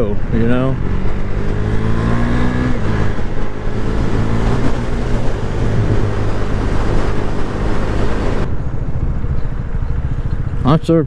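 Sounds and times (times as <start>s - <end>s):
motorcycle engine running: 0.0s - 11.0s
wind rushing over microphone: 0.2s - 10.6s.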